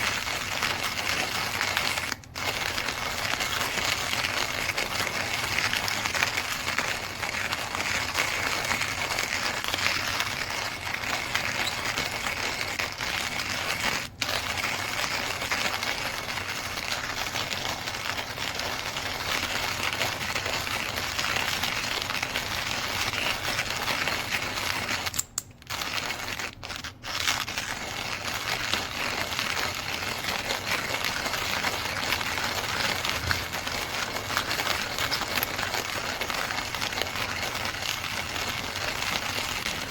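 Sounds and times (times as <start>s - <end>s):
coffee grinder crunching beans: 0.0s - 39.9s.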